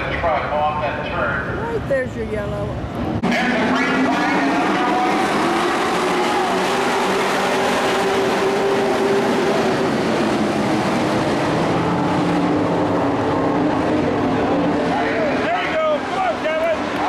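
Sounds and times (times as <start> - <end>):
racing truck engines: 0.0 - 17.0.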